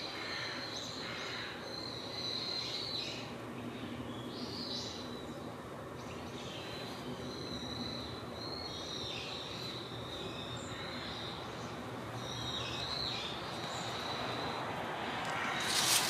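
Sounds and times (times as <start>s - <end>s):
birds calling: 0.0s - 16.0s
outdoor background noise: 0.0s - 16.0s.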